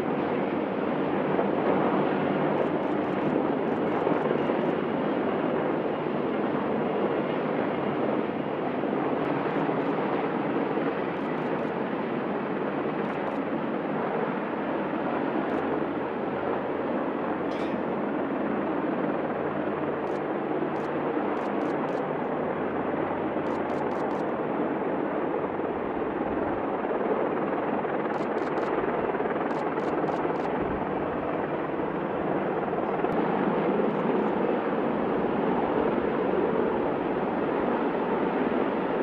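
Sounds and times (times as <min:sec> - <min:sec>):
helicopter hovering: 0:00.0 - 0:39.0.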